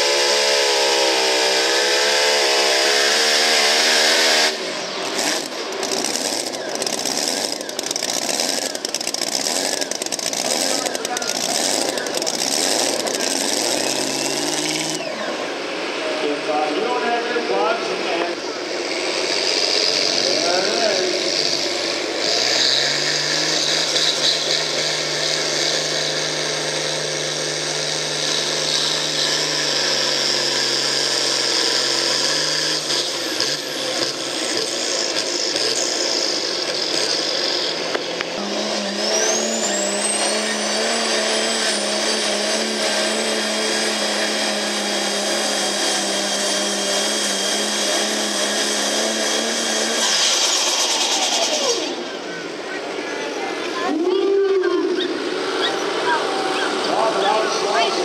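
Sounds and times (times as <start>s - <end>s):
high engine whine: 0.0s - 58.0s
pickup engine at full throttle: 0.0s - 58.0s
tractor diesel engine running: 0.0s - 58.0s.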